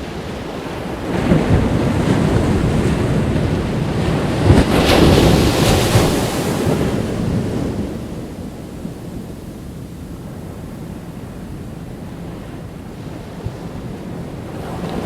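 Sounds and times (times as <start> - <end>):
waves crashing on beach: 0.0 - 15.0
wind buffeting microphone: 0.0 - 15.0.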